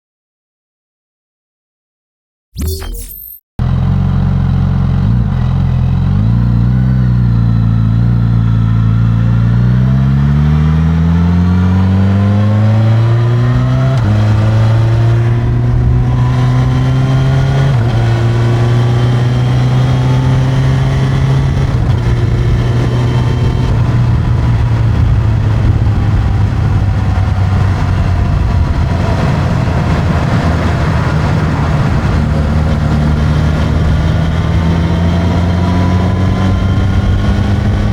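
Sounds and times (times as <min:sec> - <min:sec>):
motorcycle engine revving: 0:03.6 - 0:37.9
wind and road noise: 0:04.2 - 0:37.9.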